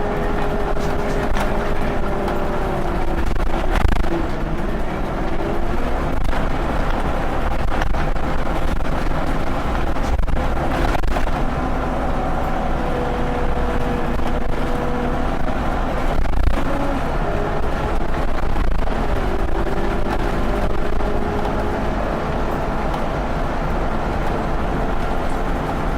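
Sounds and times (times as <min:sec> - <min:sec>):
bus engine humming: 0:00.0 - 0:25.9.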